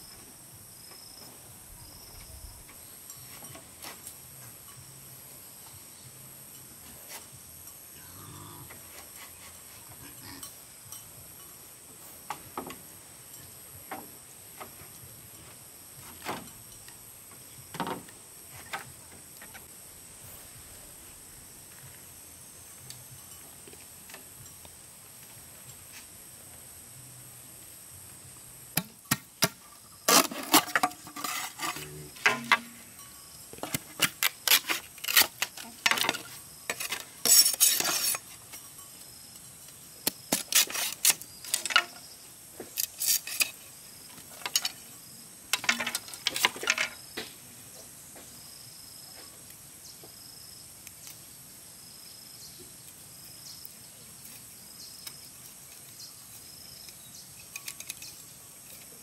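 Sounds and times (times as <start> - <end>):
insect chirping: 0.0 - 59.0
steady hiss: 0.0 - 59.0.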